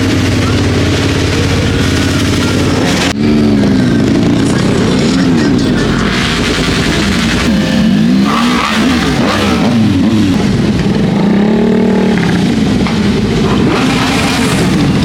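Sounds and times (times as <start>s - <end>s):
motorcycles revving past: 0.0s - 15.0s.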